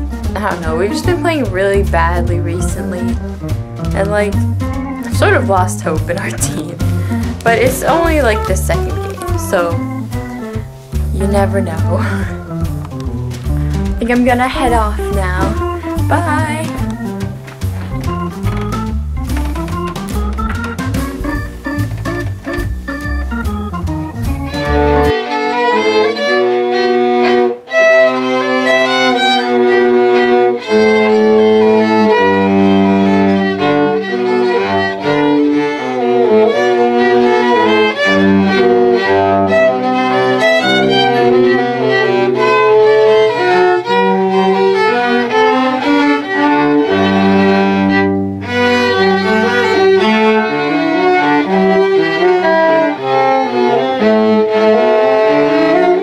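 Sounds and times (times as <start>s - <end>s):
bowed string duet: 0.0s - 56.0s.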